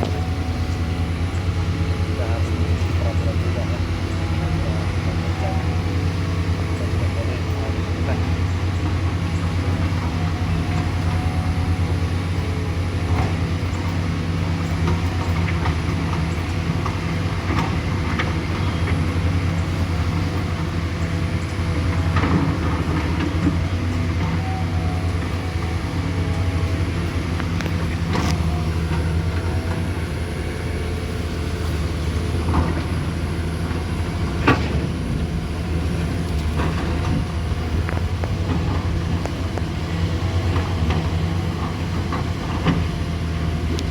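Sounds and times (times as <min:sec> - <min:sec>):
large engine running: 0:00.0 - 0:43.9.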